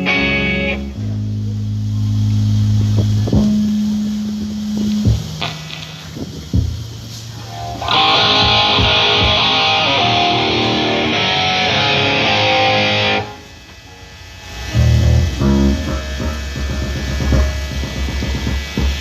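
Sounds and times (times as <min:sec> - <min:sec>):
low bass notes: 0:00.0 - 0:13.3, 0:14.2 - 0:19.0
electric guitar chord: 0:00.0 - 0:19.0.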